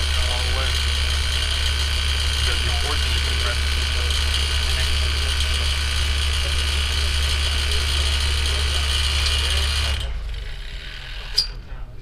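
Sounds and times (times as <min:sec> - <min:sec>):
air conditioner compressor hum: 0:00.0 - 0:12.0
fan and airflow noise: 0:00.0 - 0:12.0.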